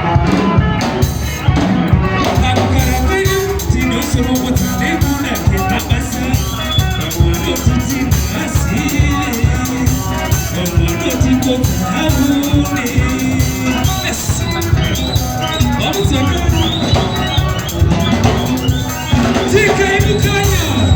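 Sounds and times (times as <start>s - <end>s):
live band music: 0.0s - 20.9s
steady drum beat: 0.0s - 20.9s.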